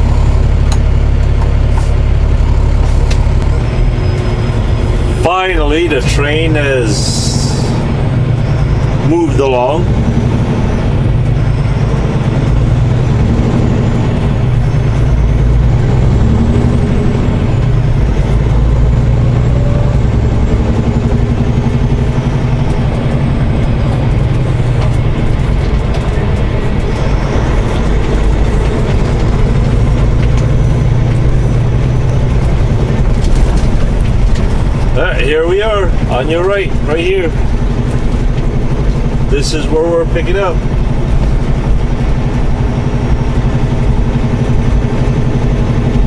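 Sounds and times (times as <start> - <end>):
diesel truck engine drone: 0.0 - 46.0
road noise: 0.0 - 46.0.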